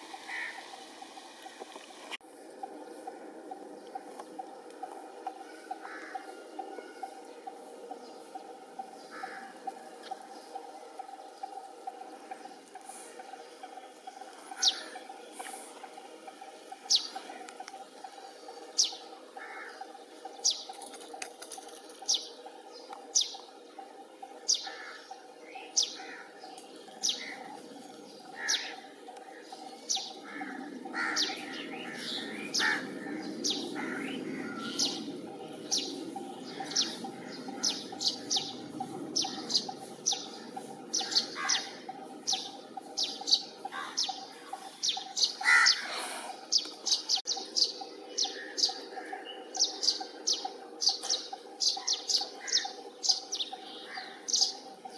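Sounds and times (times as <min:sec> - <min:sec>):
low hum: 0:00.0 - 0:54.9.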